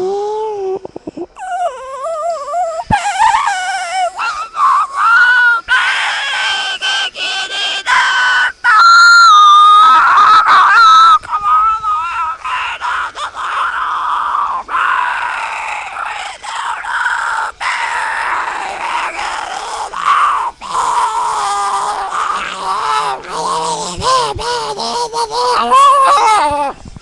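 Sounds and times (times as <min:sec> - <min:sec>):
person screaming wail: 0:01.4 - 0:07.0, 0:07.6 - 0:26.8.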